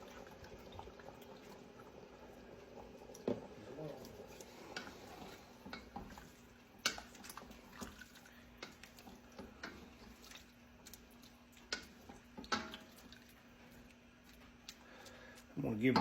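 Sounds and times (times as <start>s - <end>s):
faint steady hum: 0.0s - 16.0s
soup bubbling in a pot: 0.0s - 16.0s.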